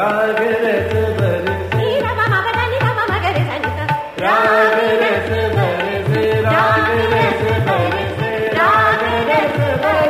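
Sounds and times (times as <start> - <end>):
tabla rhythm: 0.0 - 10.0.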